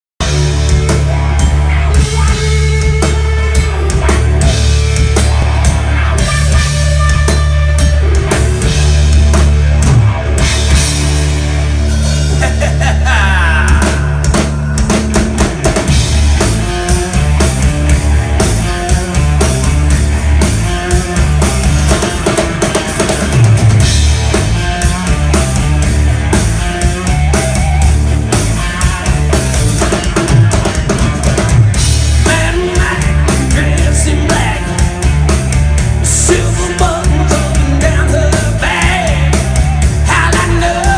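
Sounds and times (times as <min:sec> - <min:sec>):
bass guitar: 0:00.2 - 0:40.9
drum kit: 0:00.2 - 0:40.9
electric guitar: 0:00.2 - 0:40.9.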